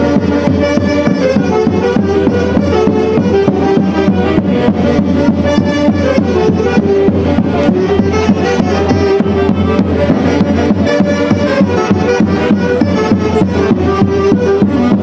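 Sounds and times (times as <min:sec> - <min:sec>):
drum beat: 0:00.0 - 0:15.0
orchestra melody: 0:00.0 - 0:15.0.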